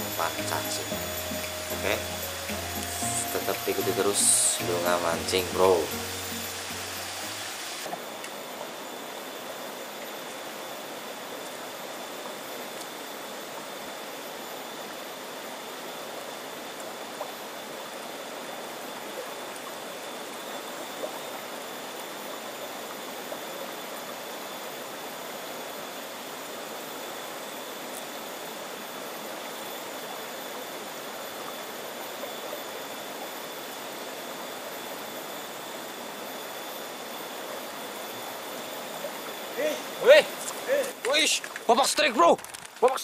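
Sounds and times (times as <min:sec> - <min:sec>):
faint high whine: 0:00.0 - 0:43.0
river flowing: 0:00.0 - 0:43.0.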